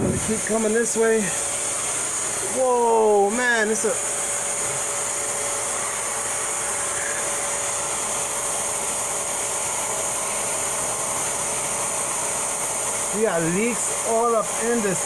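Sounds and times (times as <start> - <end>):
electric blower motor whirring: 0.0 - 15.0.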